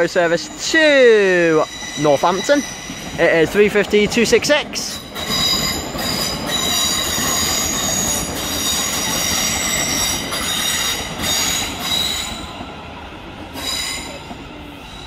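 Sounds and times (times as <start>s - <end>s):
train wheels squealing: 0.0s - 3.5s, 4.8s - 15.0s
train rumble: 0.0s - 15.0s.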